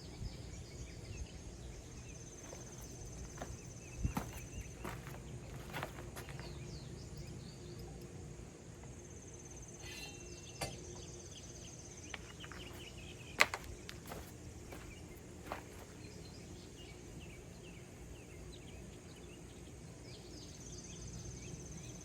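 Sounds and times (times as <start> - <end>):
birds chirping: 0.0 - 8.1, 10.3 - 22.0.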